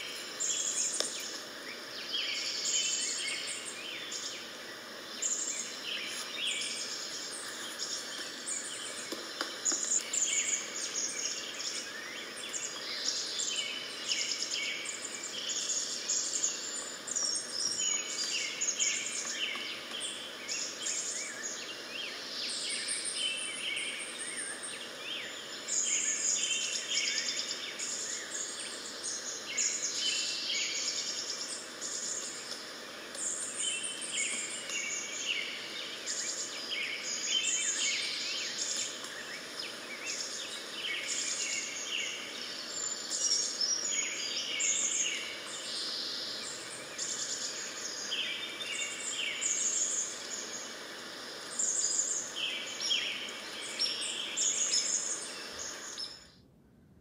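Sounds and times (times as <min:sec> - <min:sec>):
songbirds chirping and singing: 0:00.0 - 0:56.3.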